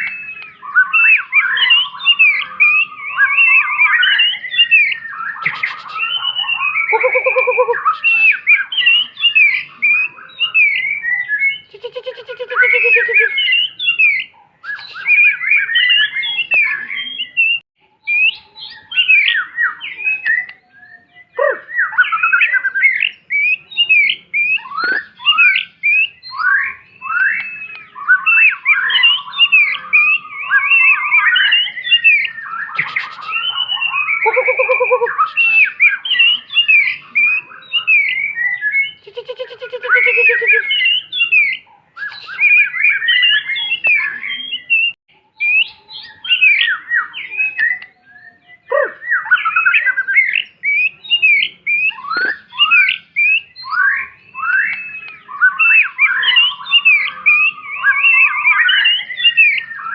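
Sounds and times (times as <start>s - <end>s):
harsh buzzy bird calls: 0.0s - 59.9s
songbird singing: 0.0s - 59.9s.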